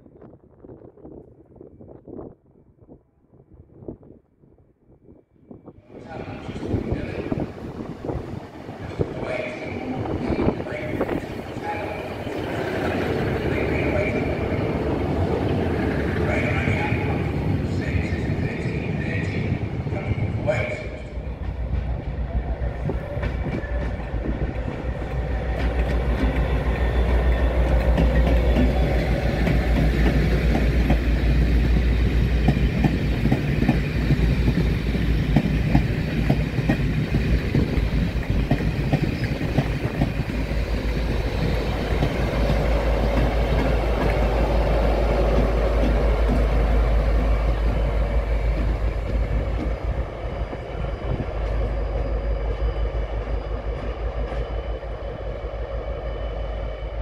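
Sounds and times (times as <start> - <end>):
train rumbling past: 5.6 - 57.0
diesel locomotive engine: 5.9 - 57.0.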